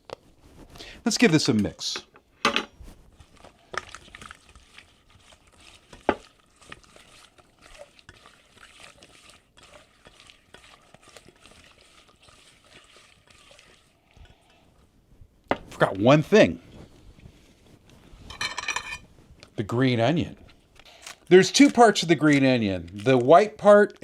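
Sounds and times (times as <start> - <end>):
wet stirring rustle in a bowl: 0.0 - 24.0.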